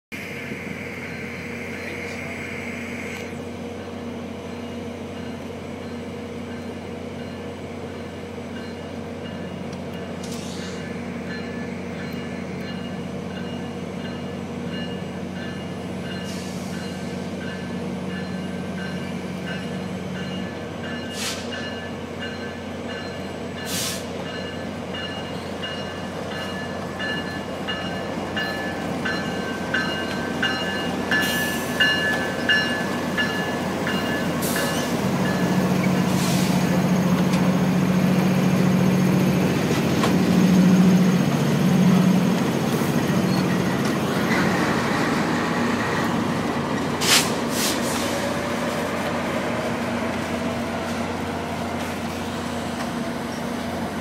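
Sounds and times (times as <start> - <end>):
diesel locomotive engine drone: 0.1 - 54.0.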